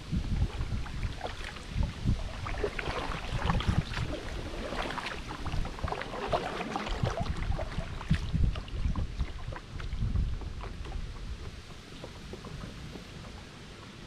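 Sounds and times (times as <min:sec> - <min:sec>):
wind rumbling on microphone: 0:00.0 - 0:14.0
kayak paddle splashing water: 0:00.2 - 0:14.0.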